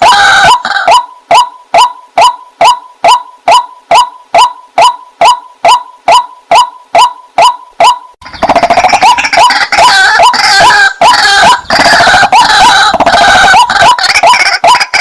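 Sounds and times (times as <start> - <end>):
water hen calling: 0.0 - 15.0.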